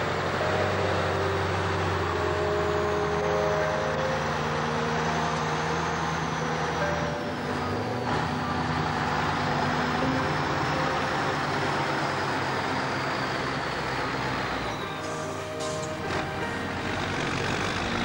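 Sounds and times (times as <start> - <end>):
diesel truck engine: 0.0 - 18.0.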